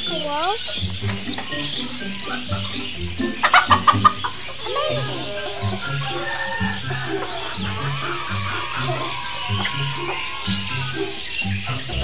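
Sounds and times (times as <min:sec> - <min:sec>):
chickens clucking: 0:00.0 - 0:12.0
high chirps: 0:00.0 - 0:12.0.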